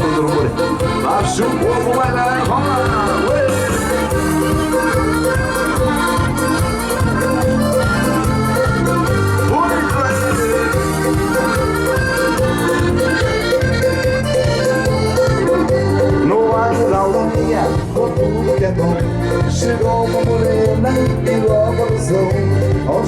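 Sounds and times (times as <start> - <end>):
accordion dance tune: 0.0 - 23.0
bass and drum beat: 0.0 - 23.0.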